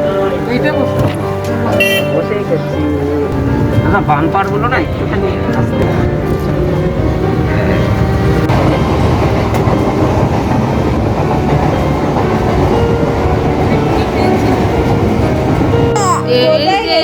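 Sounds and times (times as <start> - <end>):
electric rickshaw rattling: 0.0 - 17.0.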